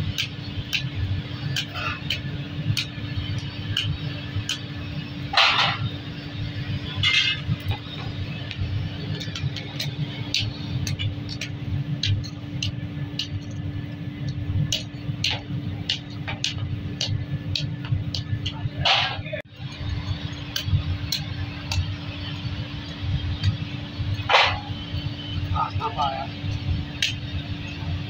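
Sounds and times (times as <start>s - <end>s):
low rumble and hum: 0.0s - 28.0s.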